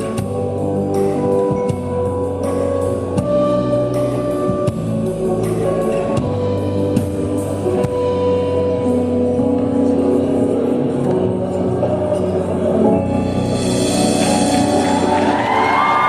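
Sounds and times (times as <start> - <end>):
drum kit beating: 0.0 - 16.0
live band music: 0.0 - 16.0.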